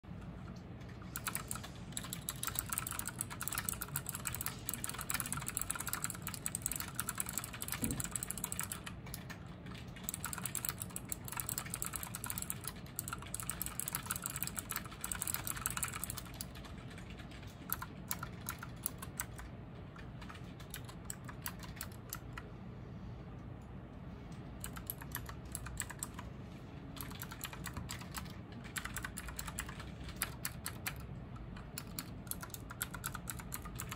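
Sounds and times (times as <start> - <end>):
mechanical keyboard typing: 0.5 - 22.5, 24.4 - 26.3, 27.0 - 33.9.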